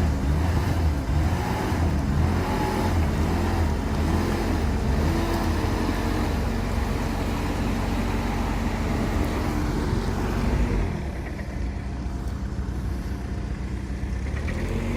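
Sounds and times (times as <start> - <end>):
vehicle engine humming: 0.0 - 14.9.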